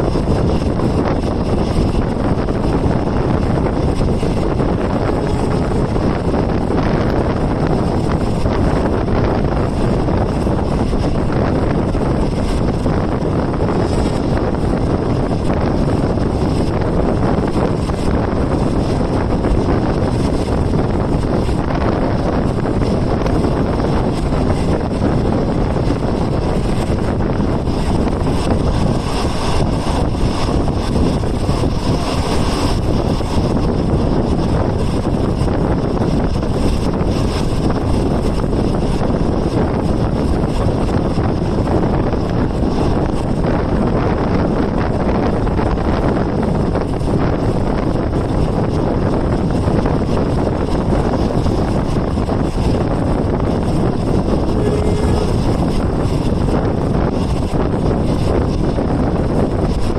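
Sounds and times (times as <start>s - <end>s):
train rumbling on track: 0.0s - 59.9s
wind buffeting microphone: 0.0s - 59.9s.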